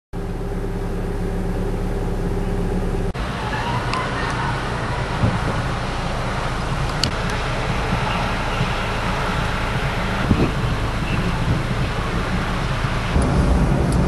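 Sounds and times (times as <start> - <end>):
passing traffic: 0.2 - 14.0
vehicle engine idling: 0.2 - 14.0.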